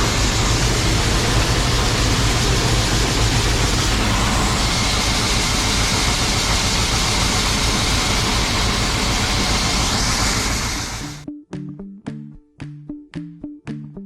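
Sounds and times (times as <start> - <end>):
machinery engine running under load: 0.0 - 11.2.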